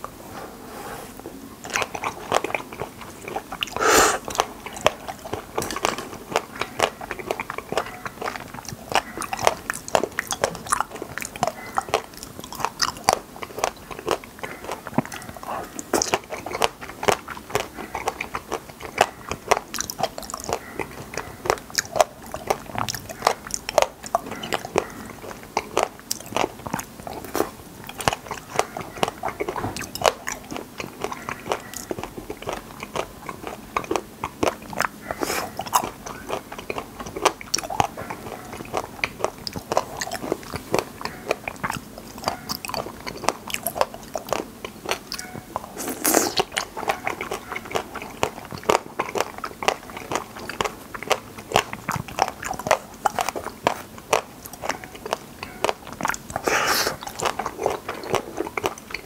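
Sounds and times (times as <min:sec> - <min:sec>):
chewing and biting raspberries: 0:01.3 - 0:59.0.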